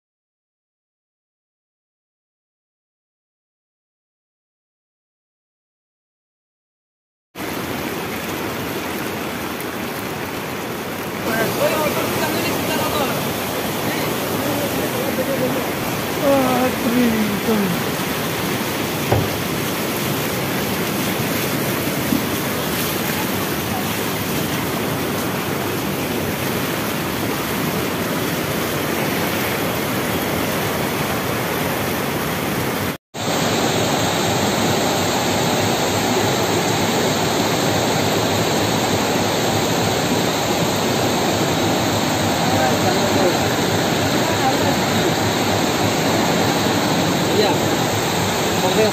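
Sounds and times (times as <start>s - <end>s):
heavy rain: 7.4s - 48.9s
rushing floodwater: 7.4s - 48.9s.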